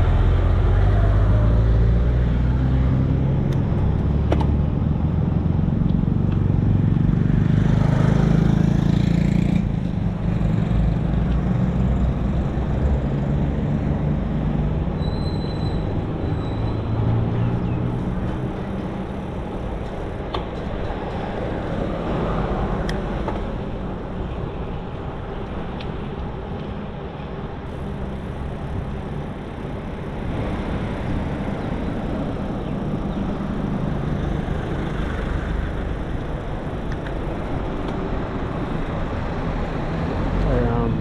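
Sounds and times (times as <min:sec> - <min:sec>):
motor vehicles humming: 0:00.0 - 0:41.0
road traffic rushing: 0:00.0 - 0:41.0.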